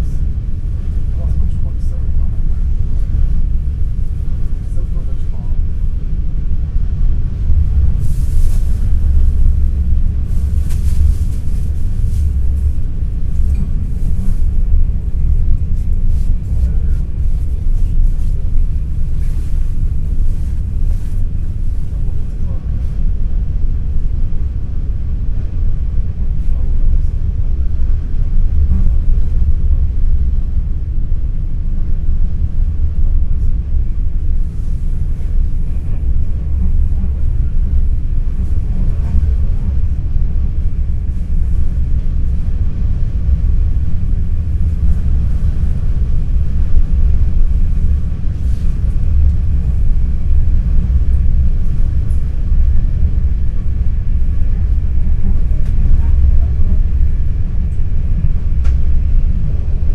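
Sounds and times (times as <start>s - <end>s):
faint passenger voices: 0.0s - 31.4s, 32.0s - 59.9s
electric train rumbling: 0.0s - 59.9s.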